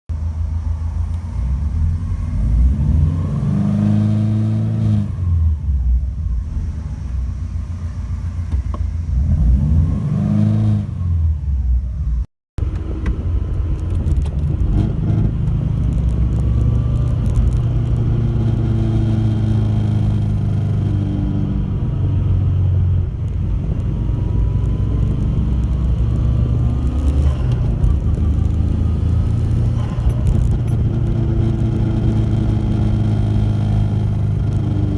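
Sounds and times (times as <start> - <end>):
car engine driving: 0.1 - 34.9.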